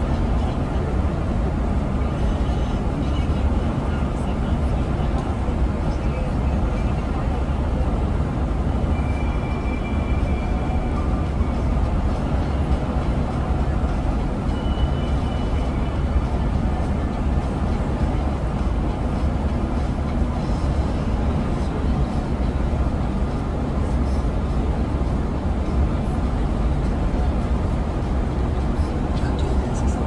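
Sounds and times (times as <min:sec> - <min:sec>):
coach engine and road drone: 0:00.0 - 0:30.0.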